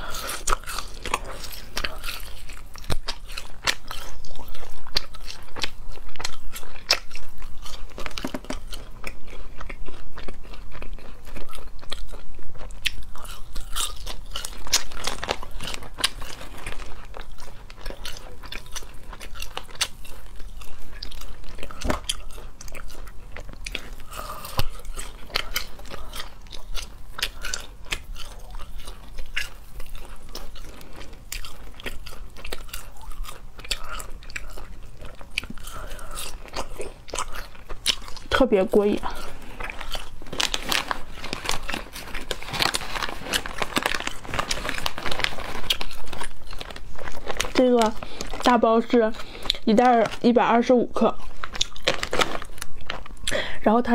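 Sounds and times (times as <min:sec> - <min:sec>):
crackly biting and chewing: 0:00.0 - 0:53.5.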